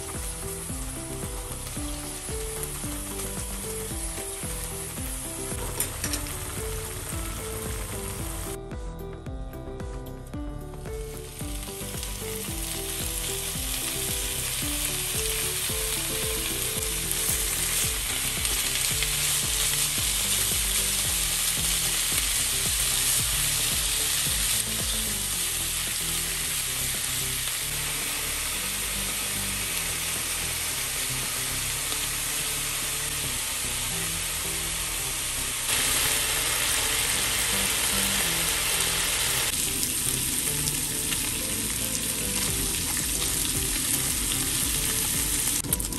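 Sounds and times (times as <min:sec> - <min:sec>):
meat sizzling in a frying pan: 0:00.0 - 0:08.5, 0:11.0 - 0:45.9.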